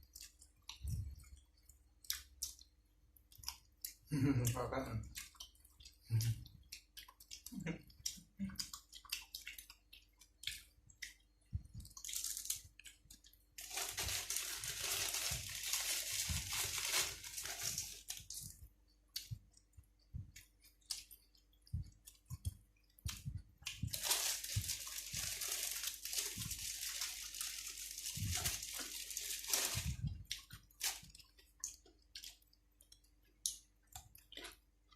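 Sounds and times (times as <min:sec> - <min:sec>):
chewing and crunching food: 0:00.0 - 0:34.9.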